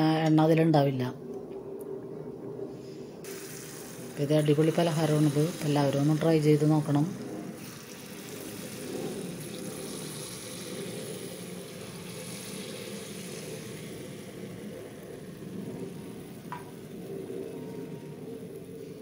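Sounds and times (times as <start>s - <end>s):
batter sizzling in hot oil: 3.2s - 19.0s.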